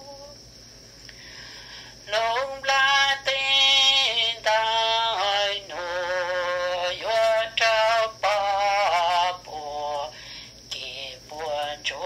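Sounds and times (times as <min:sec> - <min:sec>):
person singing slow melody: 0:00.0 - 0:00.5, 0:01.1 - 0:12.0.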